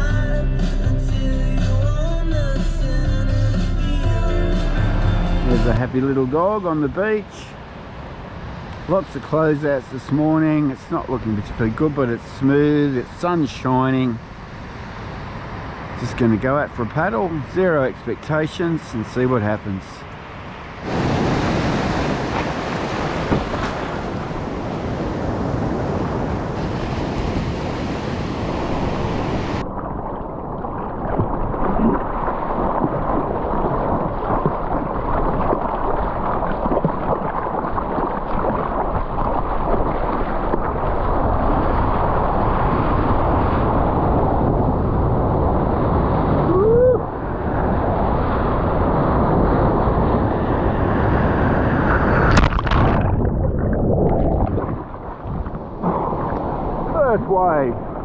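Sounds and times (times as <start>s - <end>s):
ocean surf washing: 3.4s - 58.0s.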